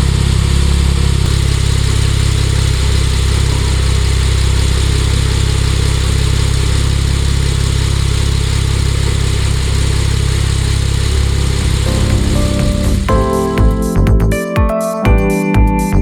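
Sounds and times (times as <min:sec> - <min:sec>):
car engine rumbling: 0:00.0 - 0:14.3.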